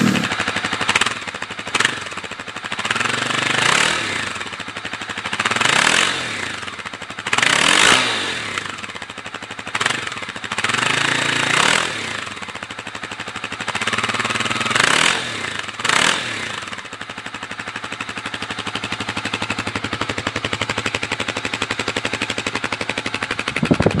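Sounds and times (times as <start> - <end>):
motorcycle engine revving and idling: 0.0 - 24.0.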